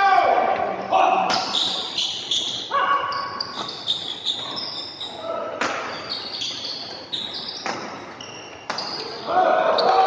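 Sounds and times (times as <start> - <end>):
shoes squeaking on court: 1.3 - 10.0.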